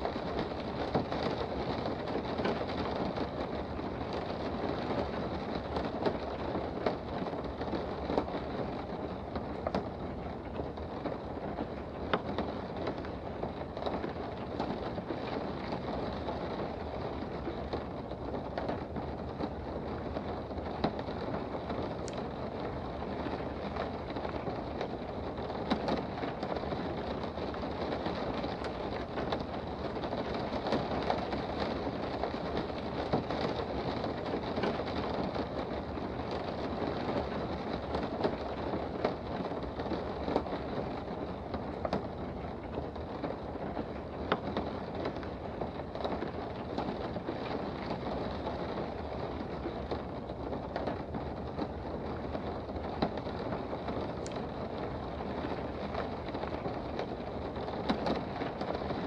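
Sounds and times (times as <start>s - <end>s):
raindrops ticking: 0.0s - 59.0s
steady rain hiss: 0.0s - 59.0s.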